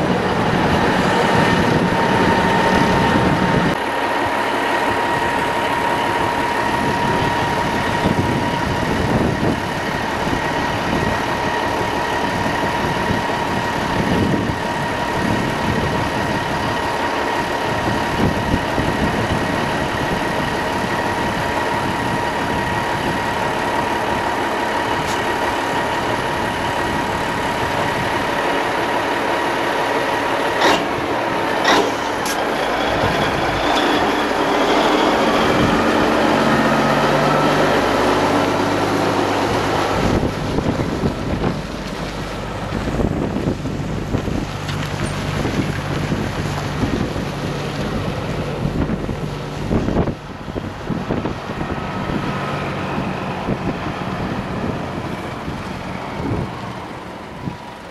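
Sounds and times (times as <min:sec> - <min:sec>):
diesel truck idling: 0:00.0 - 0:57.9
high whine: 0:00.0 - 0:57.9.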